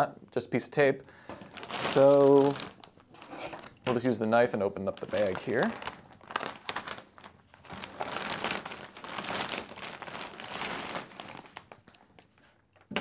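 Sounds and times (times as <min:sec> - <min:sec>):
plastic bag crinkling: 0:01.2 - 0:12.6.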